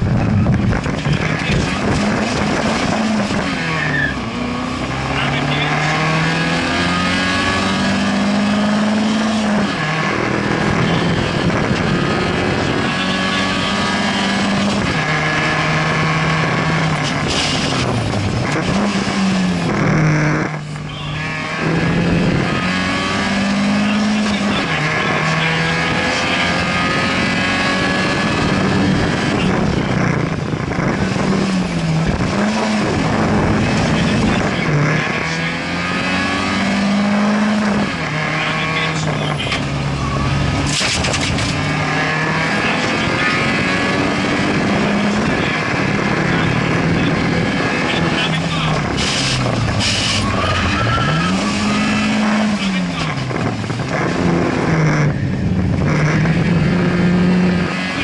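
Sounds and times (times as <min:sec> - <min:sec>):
rally car engine accelerating: 0:00.0 - 0:58.0.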